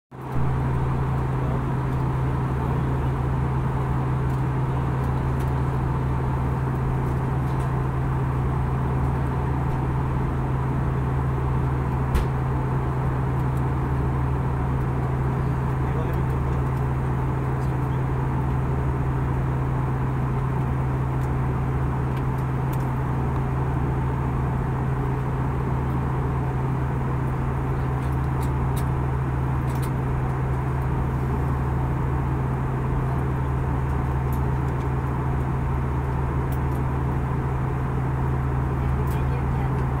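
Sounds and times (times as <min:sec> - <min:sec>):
deep jet engine hum: 0:00.2 - 0:40.0.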